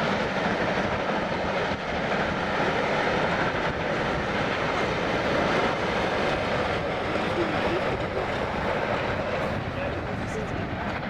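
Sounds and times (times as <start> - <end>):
train rolling on rails: 0.0 - 11.0.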